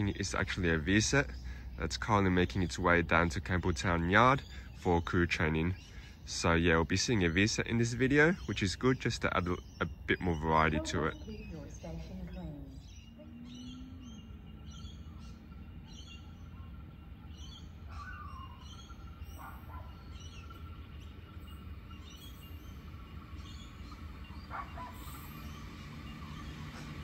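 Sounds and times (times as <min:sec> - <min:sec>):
birds chirping: 0:00.0 - 0:27.0
lower falling bird calls: 0:00.0 - 0:27.0
steady low rumble: 0:00.0 - 0:27.0.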